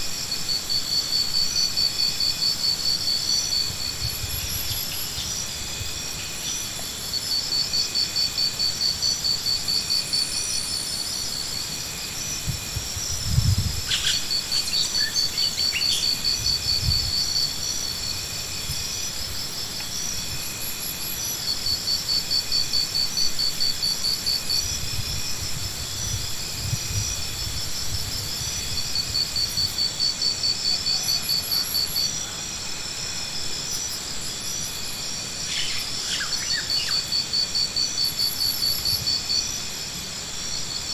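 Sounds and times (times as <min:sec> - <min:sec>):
insect trill: 0:00.0 - 0:40.9.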